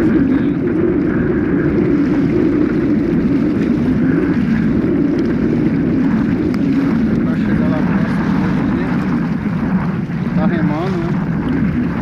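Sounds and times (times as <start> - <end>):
water rushing past boat: 0.0 - 12.0
wind buffeting microphone: 0.0 - 12.0.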